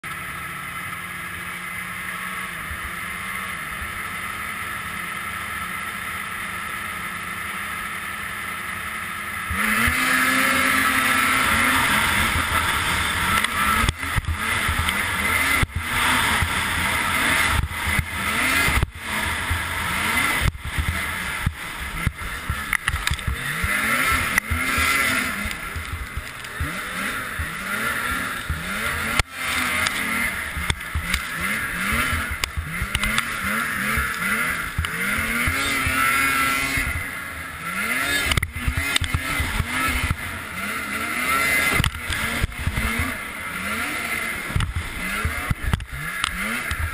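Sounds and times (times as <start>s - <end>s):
snowmobile engine revving: 0.0s - 46.9s
snowmobile engines idling: 0.0s - 46.9s.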